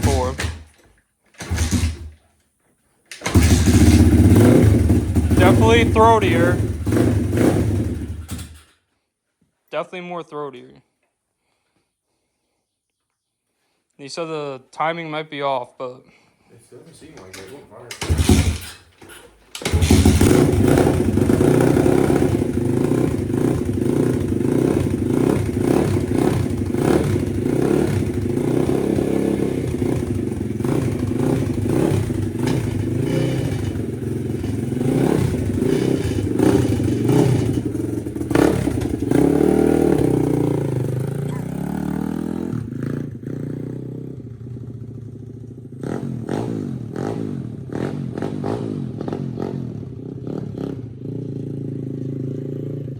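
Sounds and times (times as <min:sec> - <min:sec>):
motorbike engine revving: 0:00.0 - 0:00.8, 0:01.4 - 0:02.2, 0:03.1 - 0:08.7, 0:17.2 - 0:52.9.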